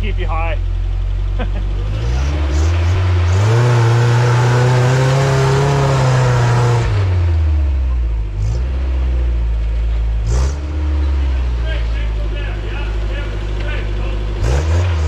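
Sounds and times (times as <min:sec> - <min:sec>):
engine revving under load: 0:01.3 - 0:15.0.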